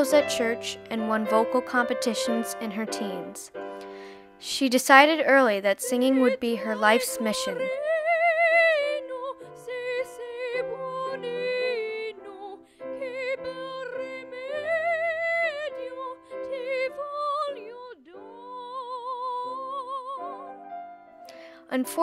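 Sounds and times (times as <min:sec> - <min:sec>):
woman singing operatically: 0:00.0 - 0:03.5, 0:04.4 - 0:20.6
soft instrumental accompaniment: 0:00.0 - 0:22.0.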